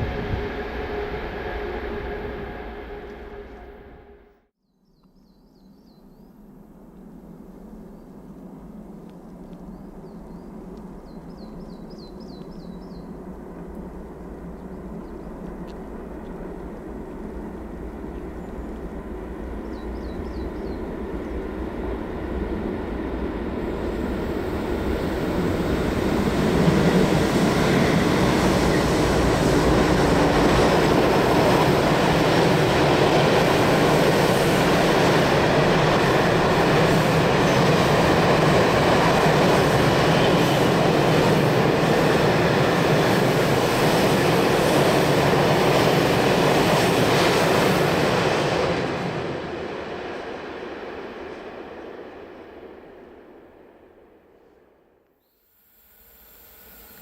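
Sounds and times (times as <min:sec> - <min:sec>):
train rumble and wheel noise: 0:00.0 - 0:04.3, 0:06.5 - 0:54.8.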